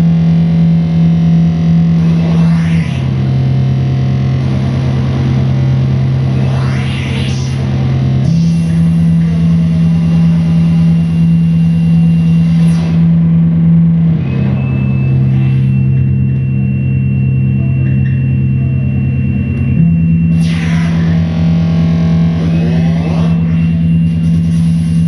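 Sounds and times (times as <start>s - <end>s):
heavy low electronic drone: 0.0s - 25.0s
thin high whine: 0.0s - 25.0s.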